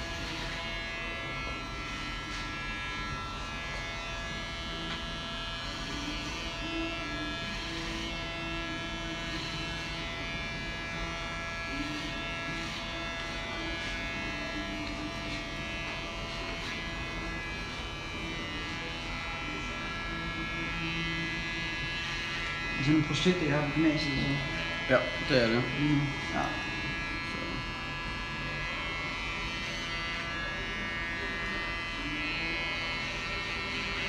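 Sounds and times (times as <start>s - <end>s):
electric hair clipper buzzing: 0.0s - 34.0s.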